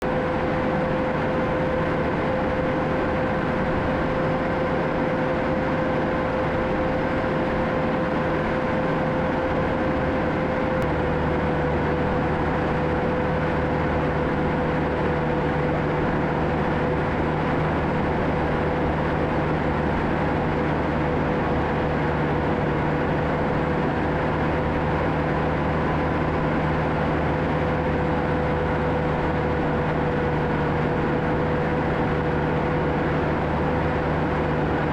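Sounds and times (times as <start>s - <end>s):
constant whine: 0.0s - 34.9s
diesel engine running under load: 0.0s - 34.9s.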